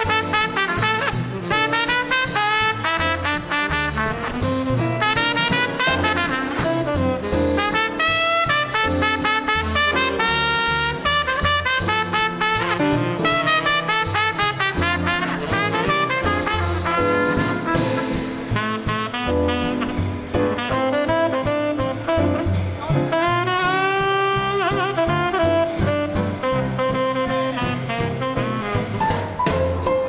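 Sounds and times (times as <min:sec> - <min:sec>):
swing band playing: 0:00.0 - 0:30.0
trumpet melody: 0:00.0 - 0:30.0
walking double bass: 0:00.0 - 0:30.0.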